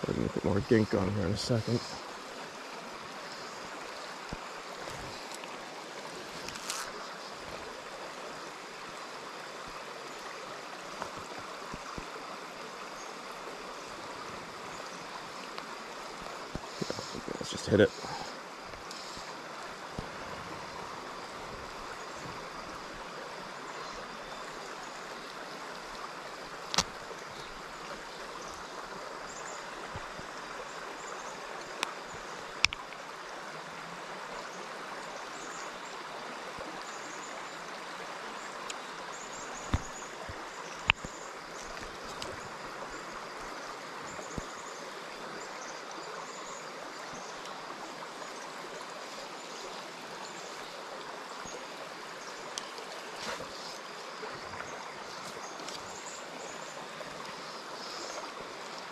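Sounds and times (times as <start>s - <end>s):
stream running over stones: 0.0s - 58.9s.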